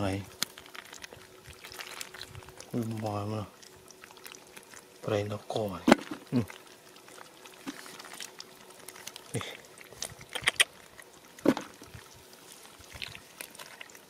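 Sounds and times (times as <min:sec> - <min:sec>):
dry mud crunching: 0:00.0 - 0:06.6, 0:07.2 - 0:14.0
wet mud squelching: 0:00.0 - 0:14.0.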